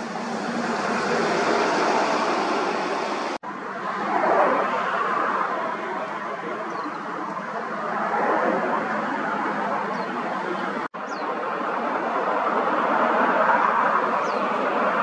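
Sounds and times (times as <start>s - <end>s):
outdoor rushing noise: 0.0s - 15.0s.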